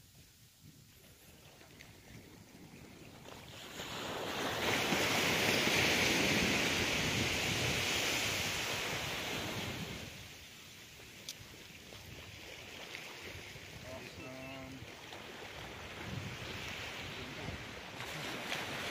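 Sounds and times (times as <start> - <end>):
sea wave washing up sand beach: 1.4 - 18.9.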